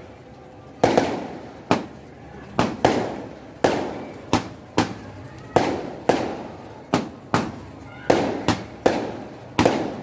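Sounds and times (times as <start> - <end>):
fireworks bangs: 0.8 - 10.0.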